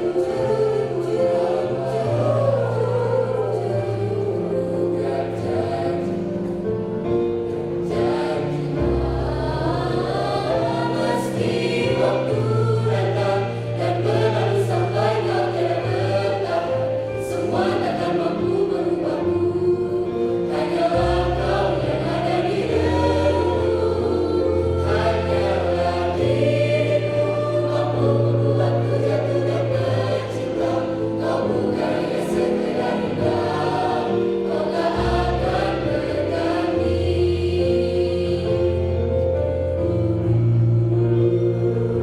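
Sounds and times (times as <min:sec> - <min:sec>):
choir singing in parts: 0:00.0 - 0:42.0.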